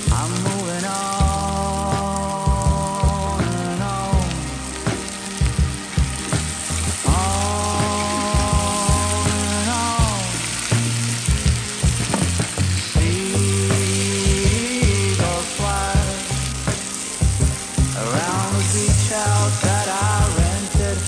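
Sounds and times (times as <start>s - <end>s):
background music with beat: 0.0s - 21.0s
food sizzling in a frying pan: 0.0s - 21.0s.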